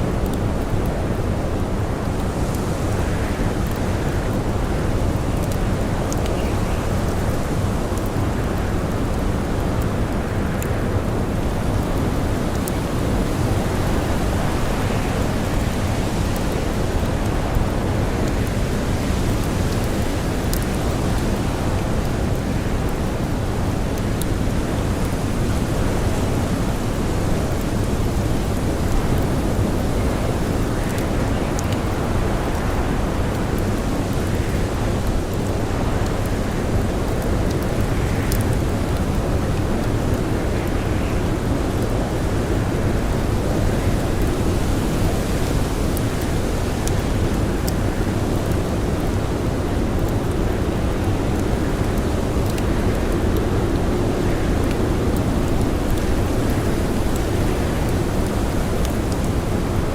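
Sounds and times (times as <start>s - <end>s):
blizzard wind and blowing snow: 0.0s - 59.9s
campfire crackles: 0.0s - 59.9s.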